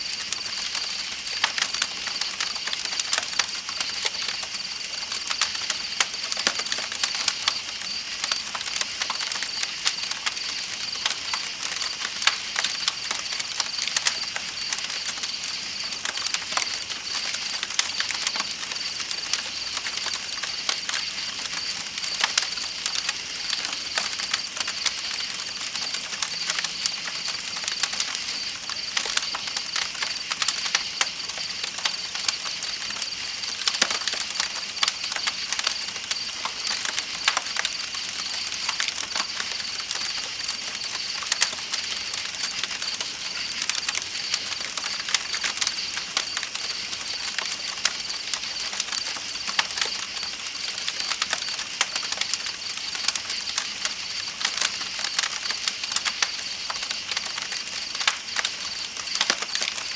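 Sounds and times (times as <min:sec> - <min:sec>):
night insects chirring: 0:00.0 - 0:59.9
campfire crackling: 0:00.1 - 0:59.9.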